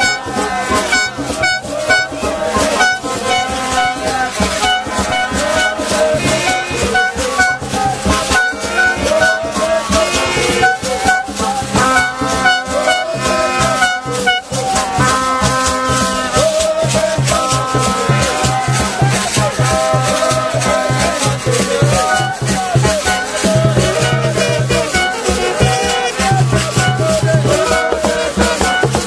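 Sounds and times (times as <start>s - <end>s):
shakers rattling: 0.0s - 13.2s, 13.8s - 29.0s
crowd noise: 0.0s - 29.0s
hand drums beating: 0.0s - 29.0s
pitched notes: 0.0s - 29.0s.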